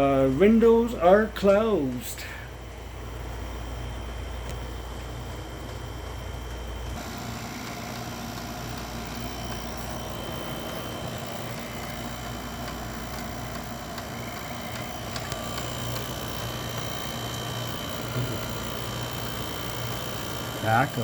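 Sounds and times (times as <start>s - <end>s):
air conditioners running: 0.0s - 21.0s
electrical drone: 0.0s - 21.0s.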